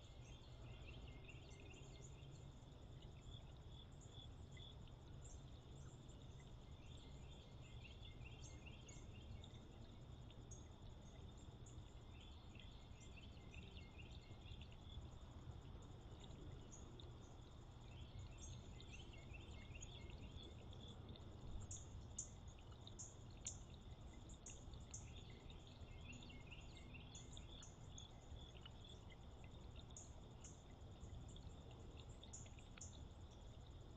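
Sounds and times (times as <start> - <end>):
low steady rumble: 0.0 - 33.9.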